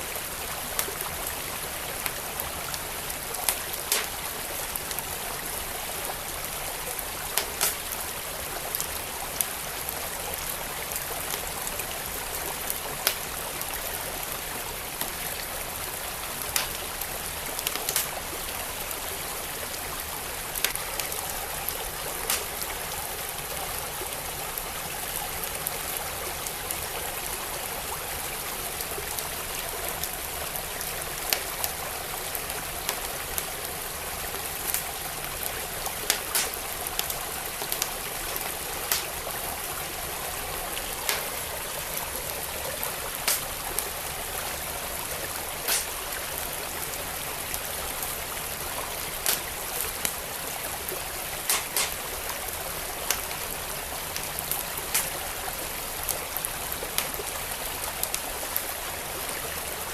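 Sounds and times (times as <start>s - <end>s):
creek flowing: 0.0s - 59.9s
wood fire popping and crackling: 0.2s - 10.5s, 11.1s - 24.0s, 28.9s - 47.8s, 48.4s - 58.3s.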